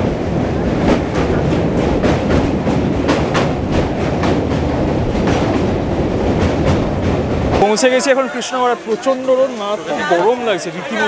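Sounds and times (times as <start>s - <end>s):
train rumbling: 0.0s - 9.9s.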